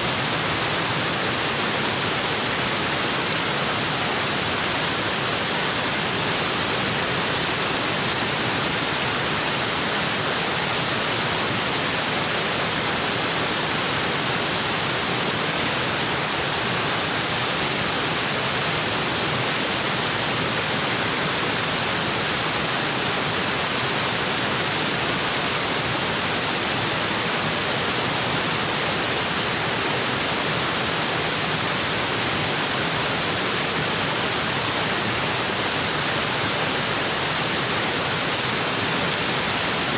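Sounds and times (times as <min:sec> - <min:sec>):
waterfall crashing onto rocks: 0:00.0 - 0:39.9.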